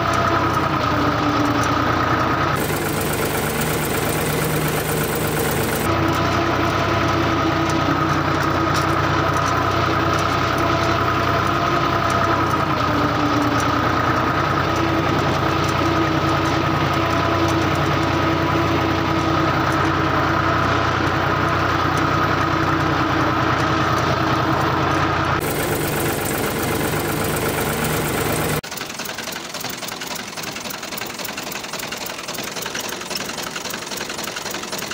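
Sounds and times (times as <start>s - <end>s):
blade pushing soil: 0.0s - 34.9s
mini tractor motor humming: 0.0s - 34.9s.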